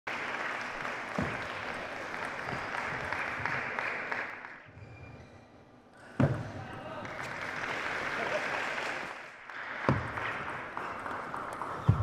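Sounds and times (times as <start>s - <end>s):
applause: 0.1s - 4.7s, 6.8s - 12.0s.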